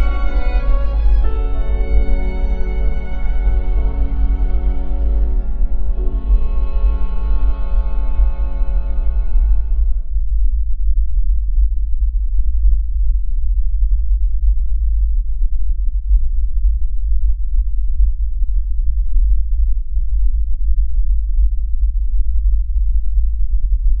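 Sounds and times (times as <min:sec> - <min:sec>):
loud low hum: 0:00.0 - 0:24.0.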